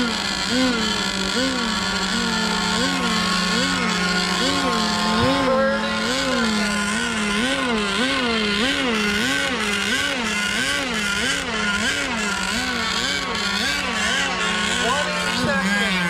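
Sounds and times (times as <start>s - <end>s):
low engine drone: 0.0s - 16.0s
whining model boat engine: 0.0s - 16.0s.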